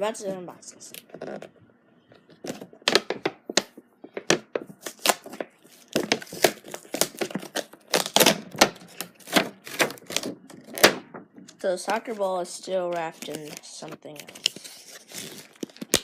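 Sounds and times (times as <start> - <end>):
packaging being opened by hand: 2.3 - 12.2, 12.9 - 16.0.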